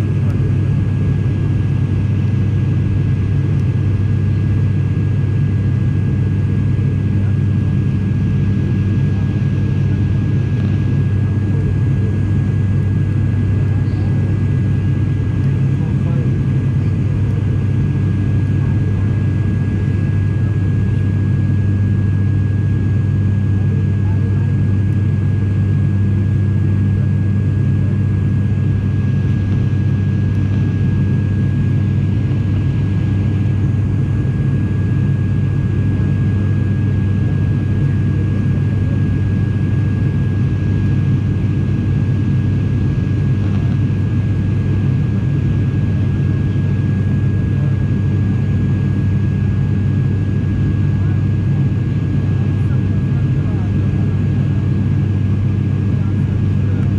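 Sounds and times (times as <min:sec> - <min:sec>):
airliner cabin drone: 0:00.0 - 0:56.9.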